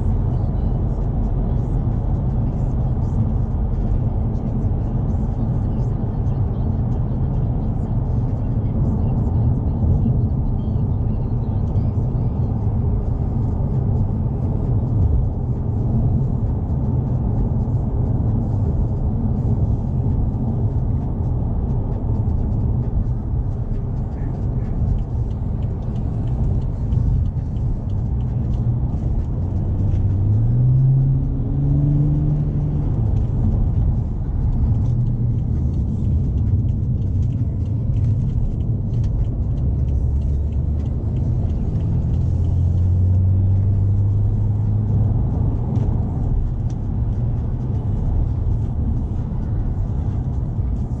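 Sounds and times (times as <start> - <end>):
deep exhaust drone: 0.0 - 51.0
road rumble: 0.0 - 51.0.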